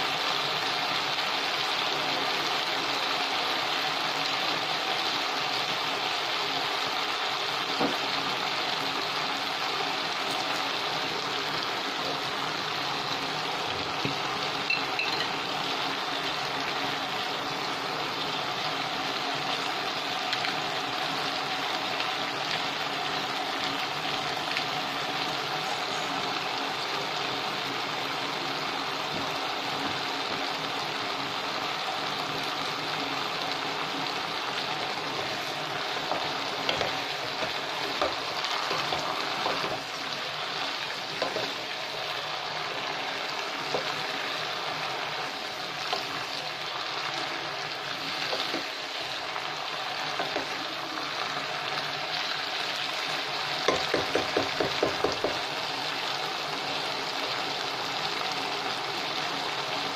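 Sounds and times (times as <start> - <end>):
vegetables sizzling in a pot: 0.0 - 59.9.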